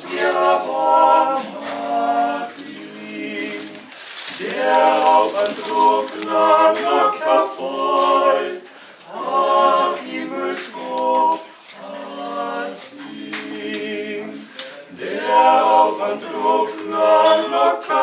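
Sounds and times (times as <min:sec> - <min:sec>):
male vocal quartet singing: 0:00.0 - 0:18.0.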